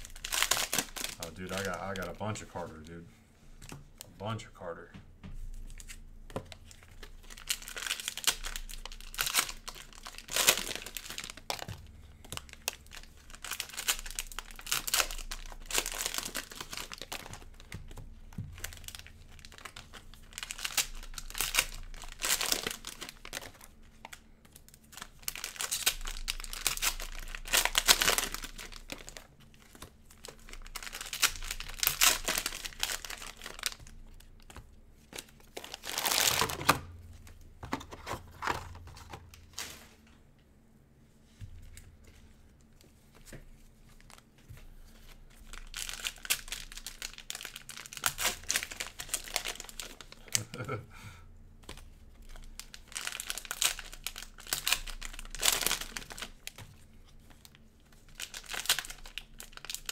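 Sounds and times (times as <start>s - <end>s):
cellophane wrappers crinkling: 0.0s - 3.0s, 5.6s - 40.1s, 41.6s - 50.8s, 51.6s - 59.9s.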